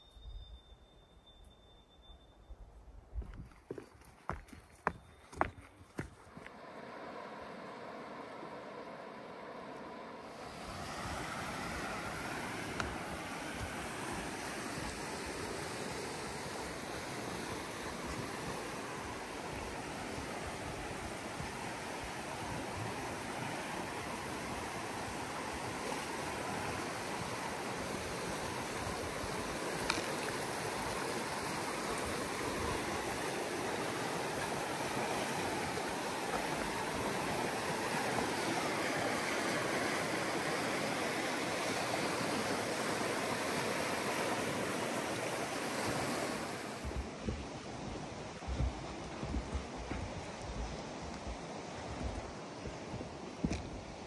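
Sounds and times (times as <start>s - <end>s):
river rapids rushing: 6.6s - 53.0s.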